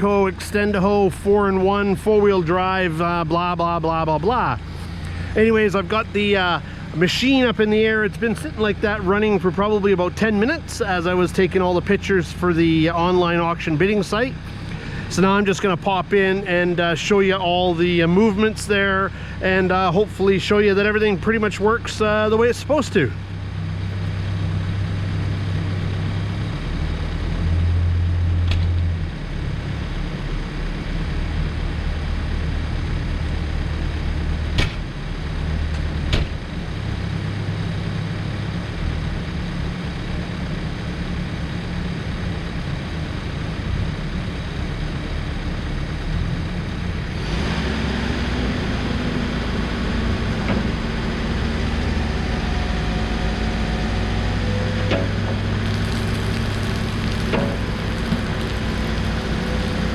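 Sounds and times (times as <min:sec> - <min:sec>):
backhoe diesel engine running: 0:00.0 - 0:47.2, 0:47.9 - 0:59.9.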